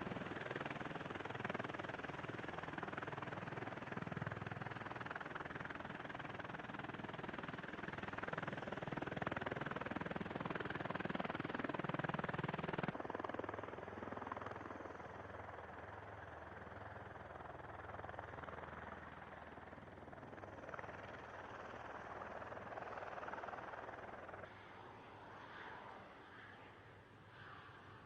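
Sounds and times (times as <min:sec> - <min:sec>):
aircraft rotors and engines running: 0:00.0 - 0:28.0.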